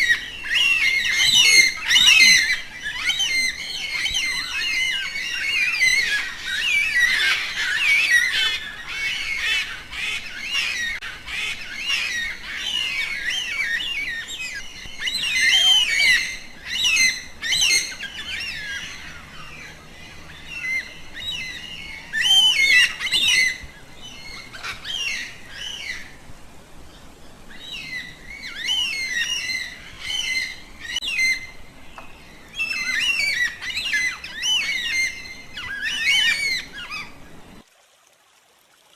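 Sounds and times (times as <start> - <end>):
flock of birds chirping: 0.0 - 37.6.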